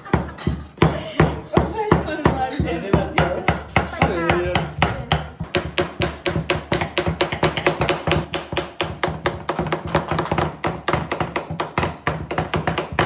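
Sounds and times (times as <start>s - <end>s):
knife chopping on wooden board: 0.1s - 13.0s.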